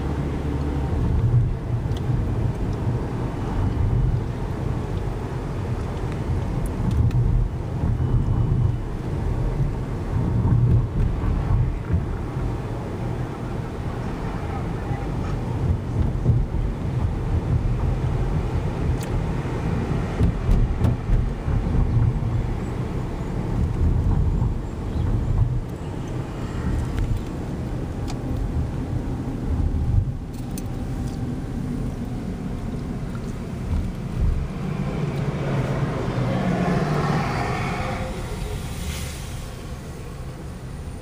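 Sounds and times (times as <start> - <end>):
car engine and tyre noise: 0.0 - 41.0.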